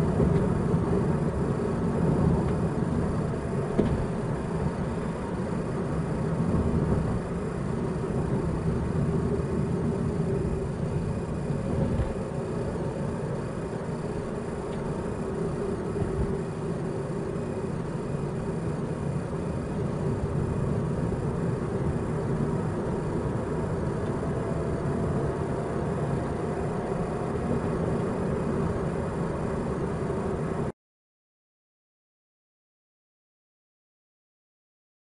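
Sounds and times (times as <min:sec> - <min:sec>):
car road and engine noise: 0:00.0 - 0:30.7.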